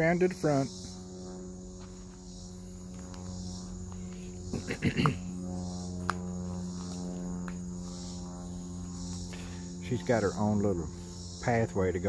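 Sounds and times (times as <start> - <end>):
insects chirring: 0.0 - 12.0
low hum: 0.0 - 12.0.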